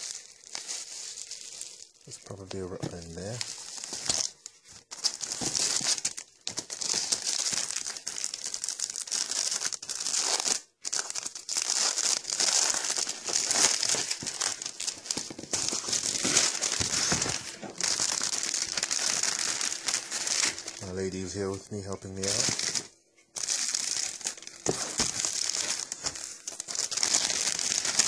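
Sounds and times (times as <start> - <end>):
plastic shrink-wrap crinkling and tearing: 0.0 - 28.0.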